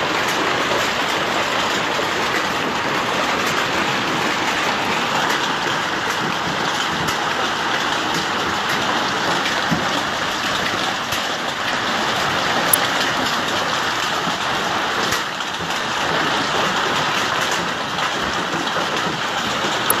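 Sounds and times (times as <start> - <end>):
hail and rain falling: 0.0 - 20.0
hailstones clicking: 0.0 - 20.0.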